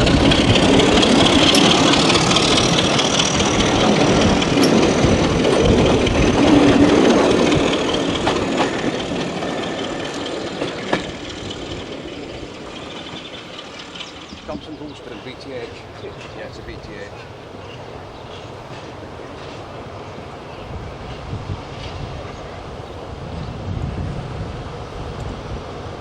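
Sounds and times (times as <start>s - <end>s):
diesel train engine running: 0.0s - 26.0s.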